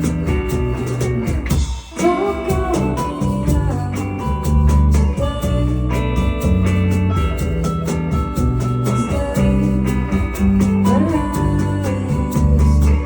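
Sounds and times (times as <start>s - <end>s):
acoustic guitar: 0.0s - 13.0s
band playing acoustic song: 0.0s - 13.0s
steady bass: 0.0s - 13.0s.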